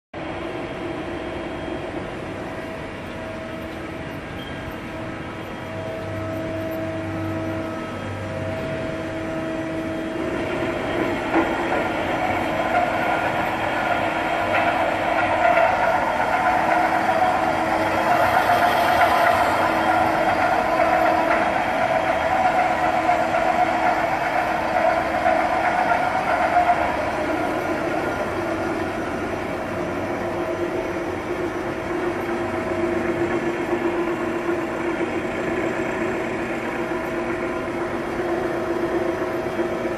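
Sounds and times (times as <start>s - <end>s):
workshop machinery humming: 0.2s - 39.9s.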